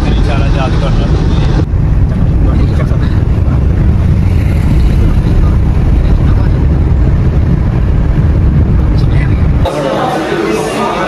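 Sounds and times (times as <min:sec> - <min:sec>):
car engine and road noise: 0:00.0 - 0:10.5.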